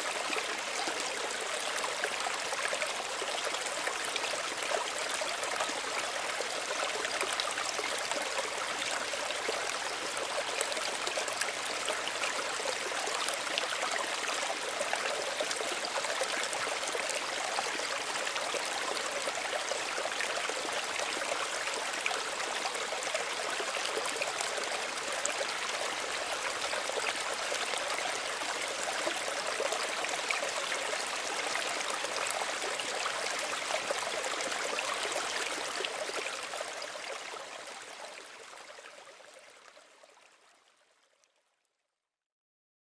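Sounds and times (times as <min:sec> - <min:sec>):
stream babbling over stones: 0:00.0 - 0:40.4.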